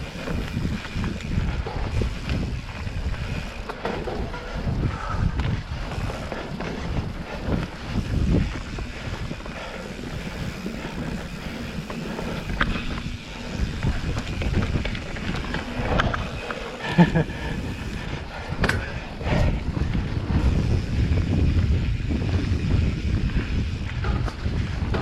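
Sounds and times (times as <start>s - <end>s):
bike clicks and rattles over bumps: 0.0s - 25.0s
bike tyres rolling on dirt: 0.0s - 25.0s
wind buffeting microphone: 0.0s - 25.0s.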